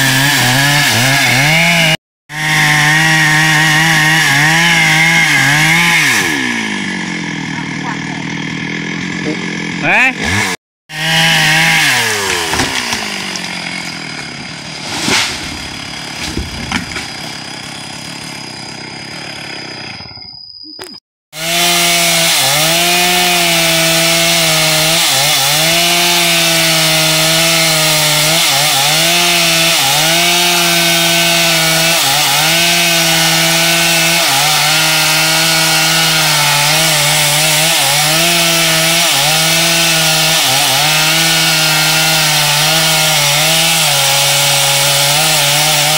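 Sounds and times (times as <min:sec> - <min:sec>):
chainsaw cutting wood: 0:00.0 - 0:20.1, 0:21.4 - 0:45.9.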